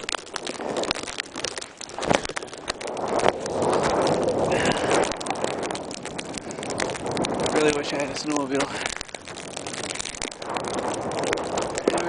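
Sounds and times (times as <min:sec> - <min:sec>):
plastic bag crackling on microphone: 0:00.0 - 0:12.0
wind rushing: 0:01.8 - 0:12.0.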